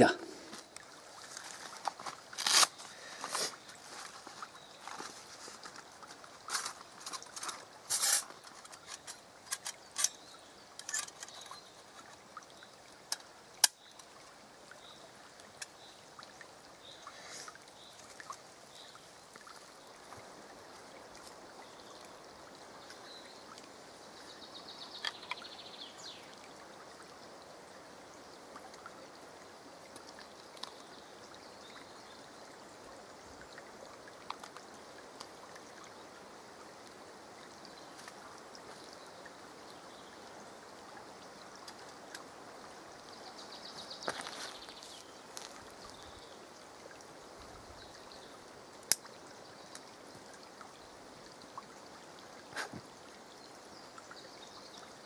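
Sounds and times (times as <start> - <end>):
brook trickling: 0.0 - 55.0.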